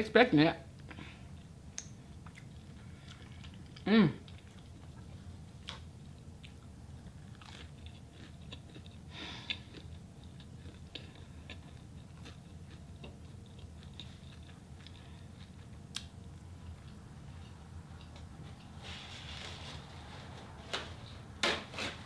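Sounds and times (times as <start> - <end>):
person chewing food: 0.8 - 19.6.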